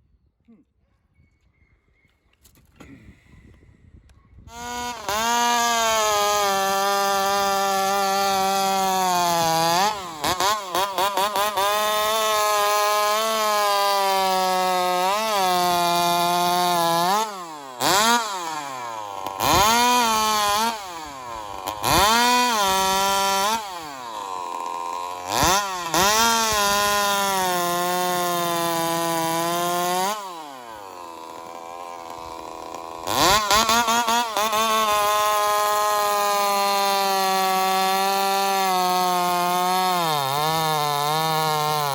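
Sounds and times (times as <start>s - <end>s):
chainsaw revving high: 4.5s - 41.9s.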